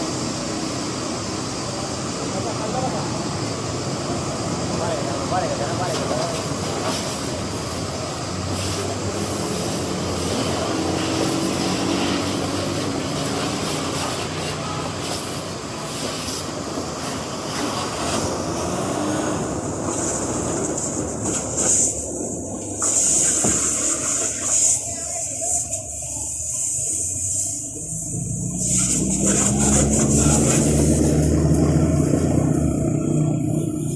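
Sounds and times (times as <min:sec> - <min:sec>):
high hiss: 0:00.0 - 0:32.7.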